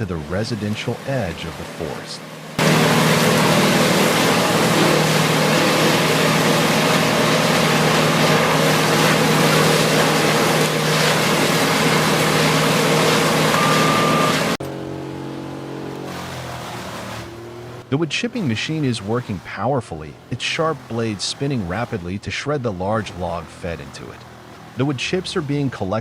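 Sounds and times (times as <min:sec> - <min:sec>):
wood chipper engine drone: 0:00.0 - 0:26.0
wood chipper shredding: 0:00.0 - 0:26.0.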